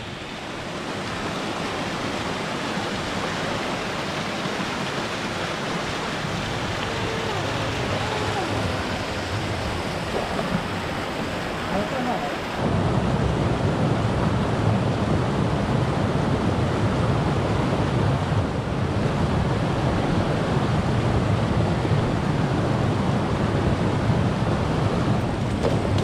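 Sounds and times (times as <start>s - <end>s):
mountain stream rushing: 0.0s - 26.0s
wind rumbling on microphone: 0.0s - 26.0s.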